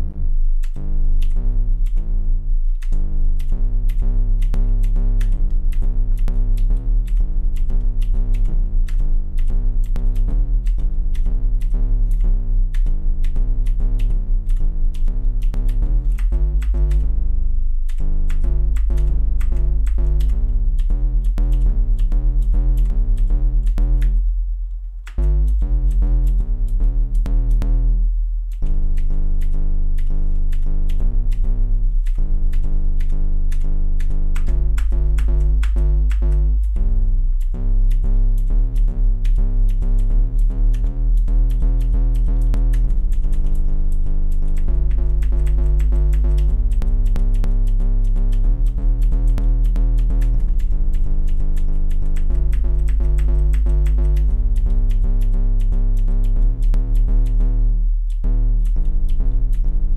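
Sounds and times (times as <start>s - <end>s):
synthesized plucked-string notes: 0.0s - 59.9s.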